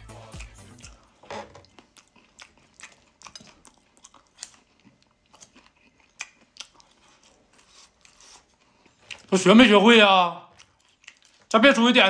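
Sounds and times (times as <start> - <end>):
person chewing crispy chicken: 0.0 - 9.5, 10.4 - 11.6.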